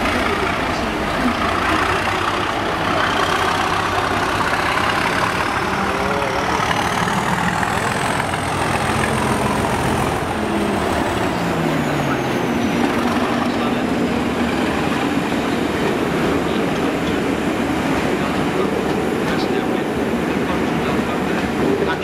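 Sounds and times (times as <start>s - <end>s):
diesel locomotive engine passing: 0.0s - 22.0s.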